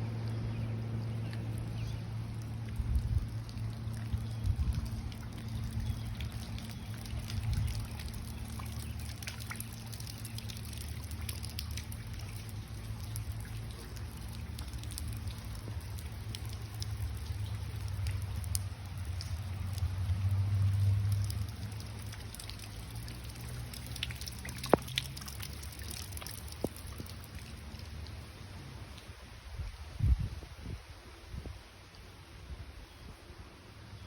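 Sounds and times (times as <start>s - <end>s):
rain falling: 0.0s - 29.8s
low hum: 0.0s - 30.3s
sharp drips and patters: 0.0s - 30.8s.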